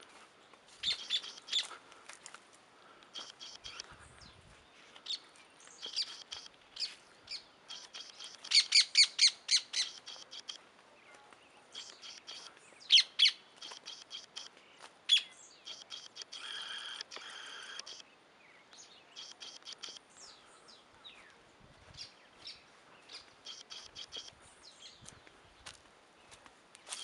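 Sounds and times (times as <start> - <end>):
wild birds chirping: 0.0 - 27.0.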